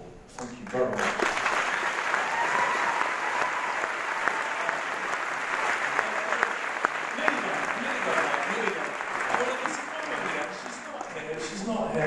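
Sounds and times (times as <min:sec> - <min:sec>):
audience applause: 0:00.4 - 0:12.0.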